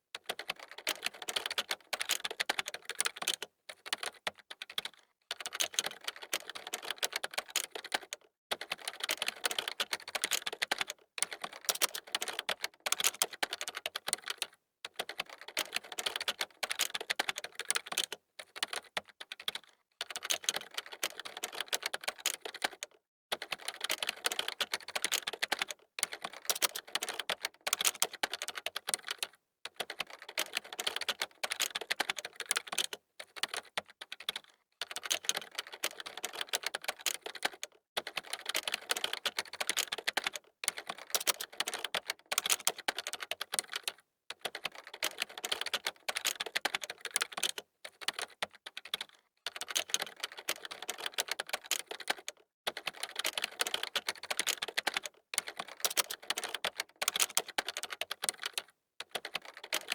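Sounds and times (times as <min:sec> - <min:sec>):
fast typing on keyboard: 0:00.2 - 0:59.9.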